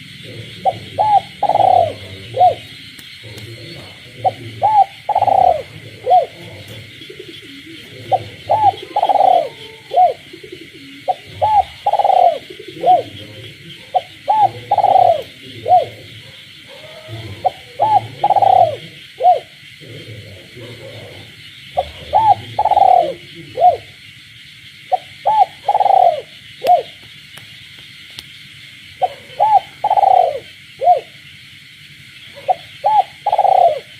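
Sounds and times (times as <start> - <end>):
dove cooing: 0.0 - 24.1, 24.8 - 27.1, 28.9 - 31.2, 32.2 - 33.9
frogs calling: 0.0 - 33.9.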